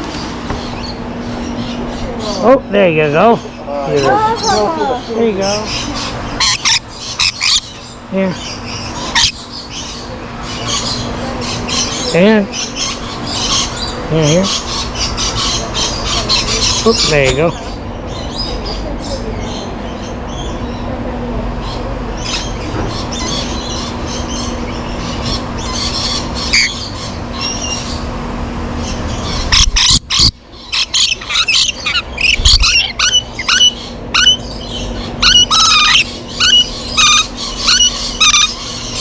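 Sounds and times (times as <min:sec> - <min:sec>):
birds chirping and squawking: 0:00.0 - 0:39.0
steady background hum: 0:00.0 - 0:39.0
loud sharp bird calls: 0:00.1 - 0:20.9, 0:21.6 - 0:28.1, 0:28.8 - 0:39.0.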